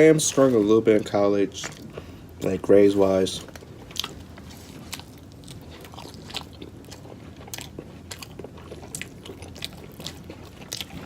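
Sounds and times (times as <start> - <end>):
person chewing food: 0.2 - 2.6, 3.4 - 11.0.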